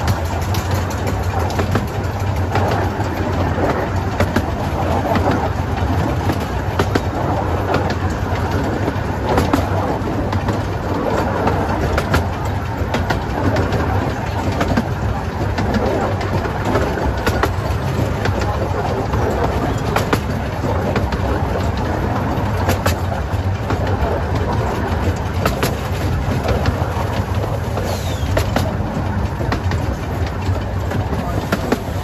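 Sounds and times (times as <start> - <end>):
clicks over rail joints: 0.0 - 32.0
train wheels rumbling: 0.0 - 32.0.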